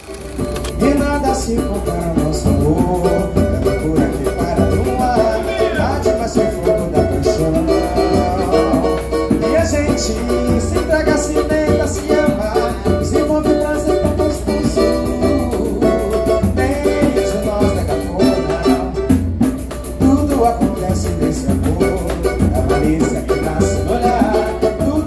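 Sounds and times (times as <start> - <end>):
cavaquinho strumming chords: 0.0 - 25.0
deep hand drum strokes: 0.0 - 25.0
pandeiro jingling rhythm: 0.0 - 25.0.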